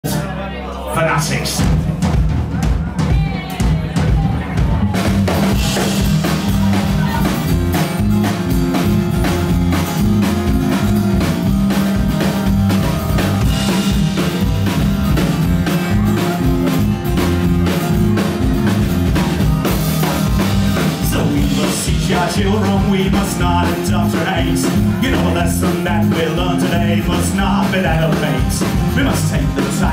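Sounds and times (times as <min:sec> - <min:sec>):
bass guitar: 0:00.0 - 0:29.9
drum kit beat: 0:01.2 - 0:29.9
acoustic guitar: 0:03.1 - 0:29.9.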